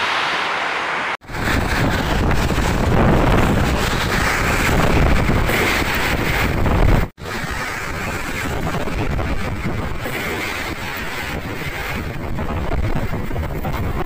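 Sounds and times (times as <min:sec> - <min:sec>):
steady rushing noise: 0:00.0 - 0:14.0
wind buffeting microphone: 0:00.0 - 0:14.0.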